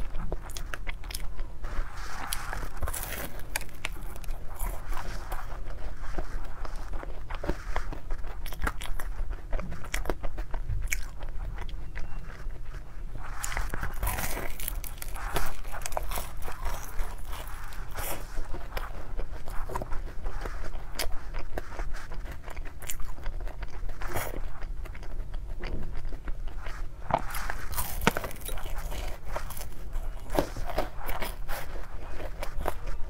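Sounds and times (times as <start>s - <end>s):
crunchy biting and chewing: 0.0s - 33.0s.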